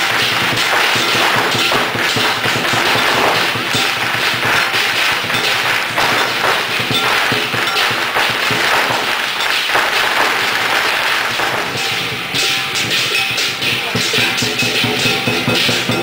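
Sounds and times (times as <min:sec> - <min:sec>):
firecrackers going off: 0:00.0 - 0:16.0.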